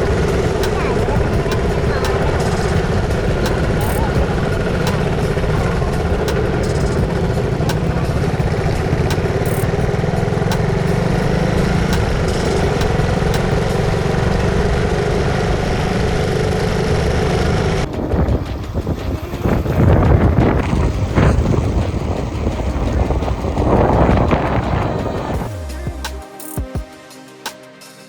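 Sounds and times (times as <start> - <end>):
motorcycle engine running: 0.0 - 26.1.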